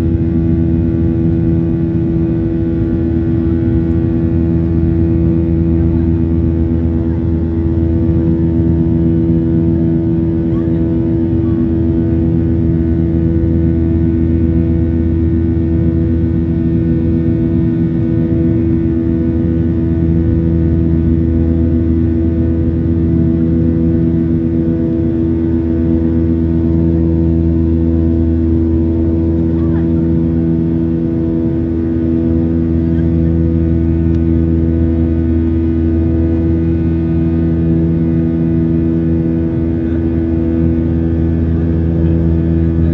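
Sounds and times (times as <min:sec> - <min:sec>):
airliner engines droning: 0:00.0 - 0:42.9.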